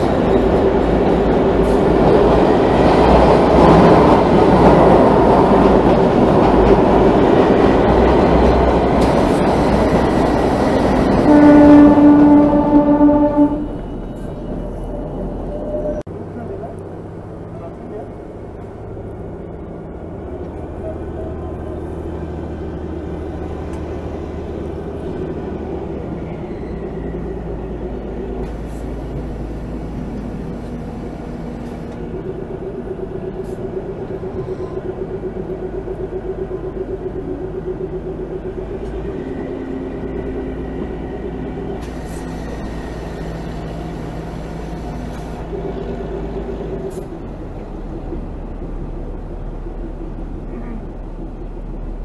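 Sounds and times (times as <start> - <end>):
train wheels on rails: 0.0 - 16.0, 17.6 - 52.0
locomotive engine droning: 0.0 - 52.0.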